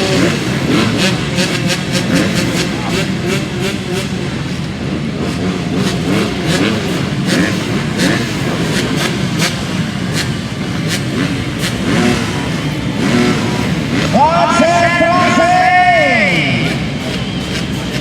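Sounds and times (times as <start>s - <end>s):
motocross motorcycles revving: 0.0s - 18.0s.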